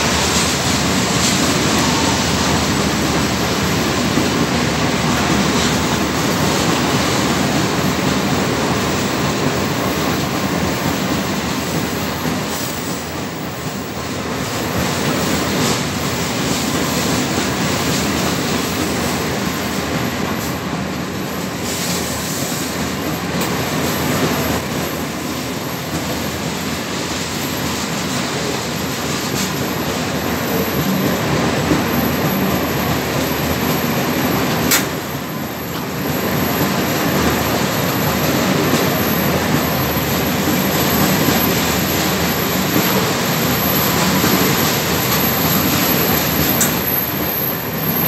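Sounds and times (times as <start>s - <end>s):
freight train wheels rumbling: 0.0s - 48.0s.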